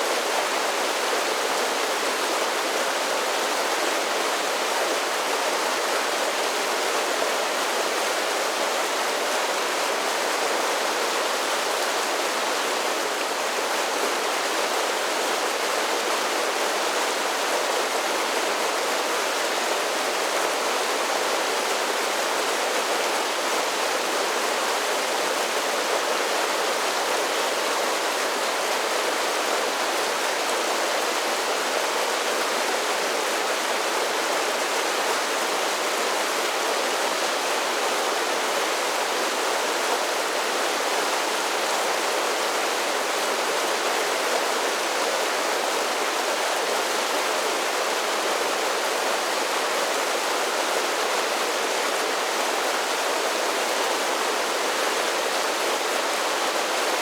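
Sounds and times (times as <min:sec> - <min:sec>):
creek rushing over small waterfalls: 0:00.0 - 0:57.0.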